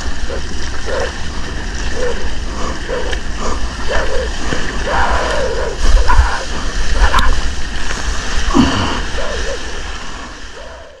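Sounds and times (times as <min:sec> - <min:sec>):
wavering voice-like calls: 0:00.0 - 0:07.6, 0:08.2 - 0:11.0
wind buffeting microphone: 0:00.0 - 0:10.9
whitewater splashing and rushing: 0:00.0 - 0:11.0.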